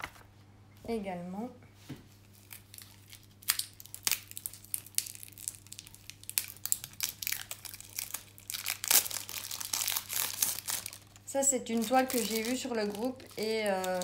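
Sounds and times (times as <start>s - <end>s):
plastic wrapping crinkling: 2.2s - 14.0s.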